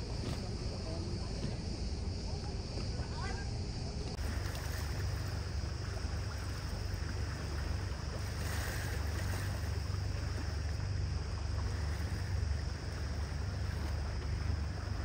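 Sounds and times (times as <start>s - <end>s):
boat engine drone: 0.0s - 15.0s
wind: 0.0s - 15.0s
rushing water: 2.3s - 15.0s.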